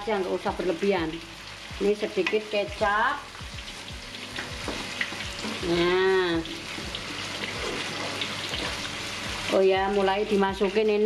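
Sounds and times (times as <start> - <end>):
sauce sizzling and bubbling: 0.0 - 11.0.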